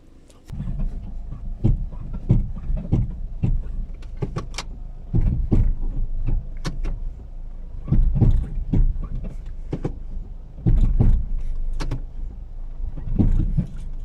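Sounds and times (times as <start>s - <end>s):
car engine running: 0.0s - 14.0s
irregular clicks and knocks: 0.4s - 14.0s.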